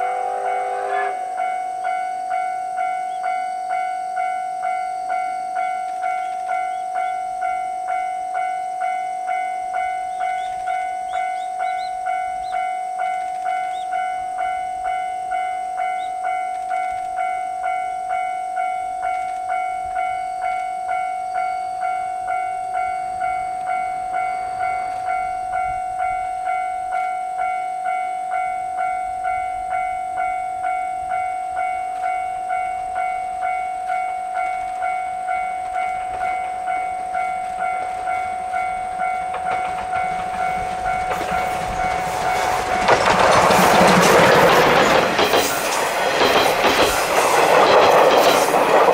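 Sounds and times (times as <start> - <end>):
level crossing warning bell: 0.0 - 48.9
steam locomotive running: 0.0 - 48.9.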